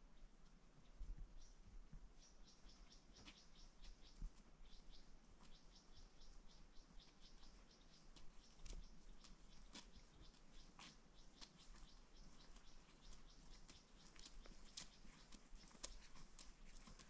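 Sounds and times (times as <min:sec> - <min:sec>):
faint rapid high-pitched ticks: 0:02.5 - 0:17.0.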